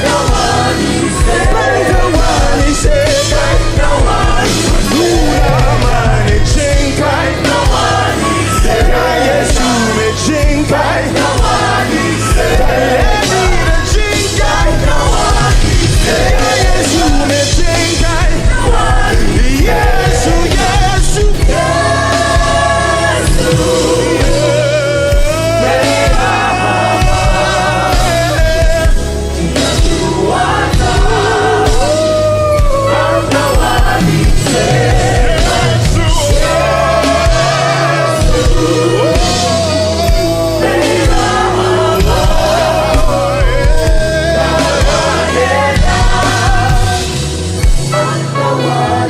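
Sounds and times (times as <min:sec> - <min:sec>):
gospel band playing: 0:00.0 - 0:49.0
people singing: 0:00.0 - 0:49.0.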